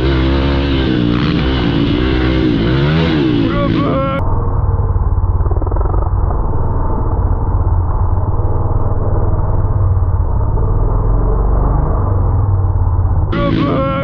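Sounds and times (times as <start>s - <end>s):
motorcycle engine pulsing exhaust: 0.0s - 14.0s.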